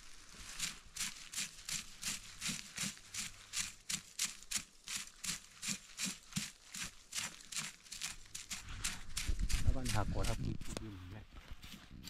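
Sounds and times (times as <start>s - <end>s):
footsteps crunching: 0.0s - 12.0s.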